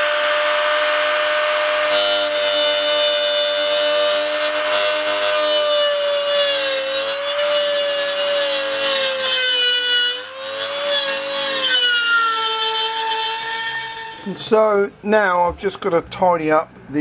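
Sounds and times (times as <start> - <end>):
rotary tool cutting metal: 0.0 - 14.4.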